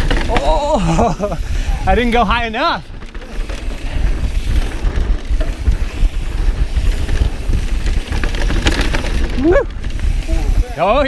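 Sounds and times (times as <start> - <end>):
bike tyres rumbling on dirt: 0.0 - 11.0
small rattles and clicks: 0.0 - 11.0
wind buffeting microphone: 0.0 - 11.0.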